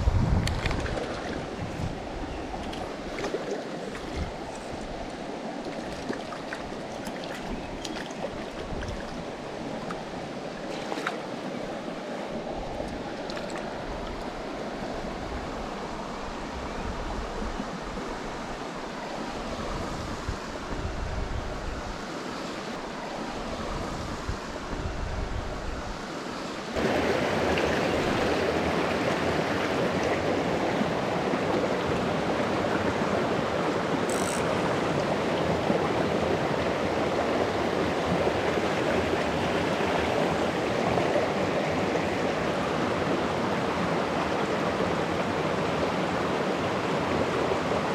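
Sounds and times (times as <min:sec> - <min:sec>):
creek water rushing: 0:00.0 - 0:47.9.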